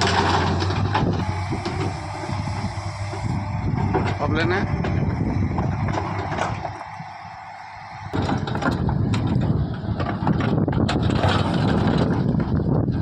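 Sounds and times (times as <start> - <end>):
knocks and clanks: 0.0 - 6.9, 8.2 - 12.6
diesel machinery rumbling: 0.0 - 13.0.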